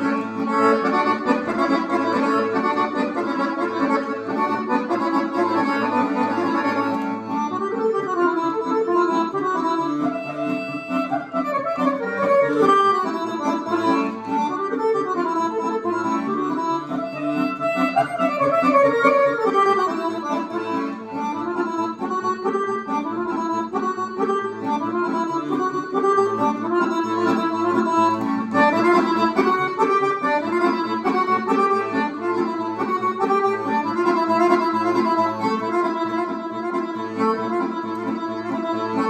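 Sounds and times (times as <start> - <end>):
accordion playing fast dance tune: 0.0 - 39.0.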